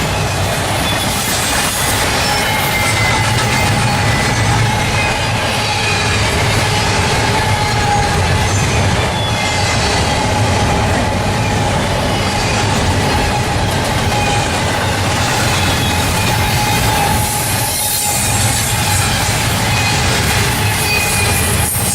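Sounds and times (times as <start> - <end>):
freight train cars rumbling on rails: 0.0 - 21.9
wheels clacking over rail joints: 0.0 - 21.9
wheels squealing on rail: 0.0 - 21.9.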